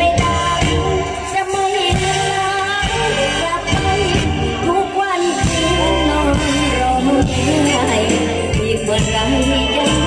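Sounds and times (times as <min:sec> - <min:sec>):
band with bass: 0:00.0 - 0:10.0
woman singing ornamented melody: 0:00.0 - 0:10.0.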